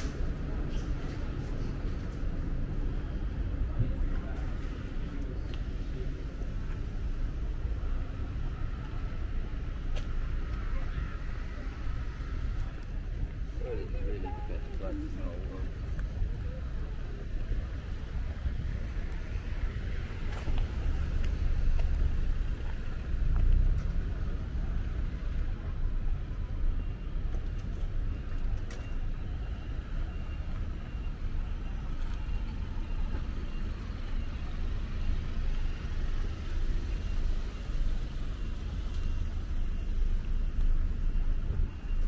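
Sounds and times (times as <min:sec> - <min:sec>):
low rumble of road traffic: 0:00.0 - 0:42.0.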